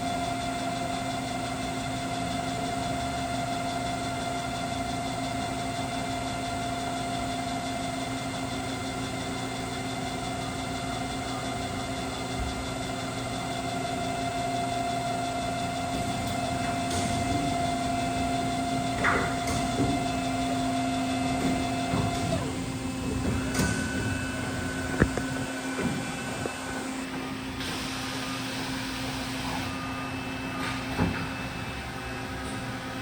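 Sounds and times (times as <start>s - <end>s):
machine hum with held tones: 0.0s - 33.0s.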